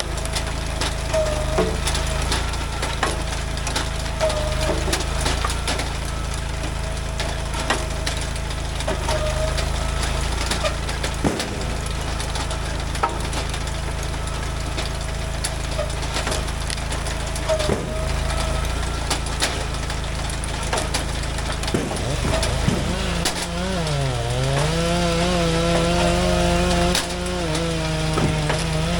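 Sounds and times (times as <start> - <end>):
log splitter engine running: 0.0 - 28.9
logs cracking and splitting: 0.0 - 28.9.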